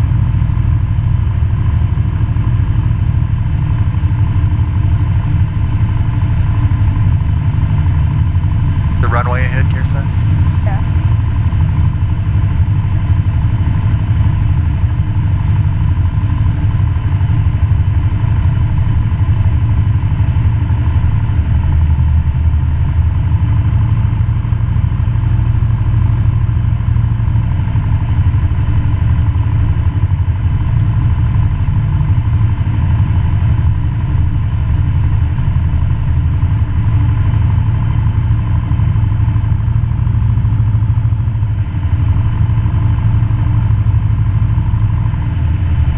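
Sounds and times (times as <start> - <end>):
airplane engine and propeller droning: 0.0 - 45.9.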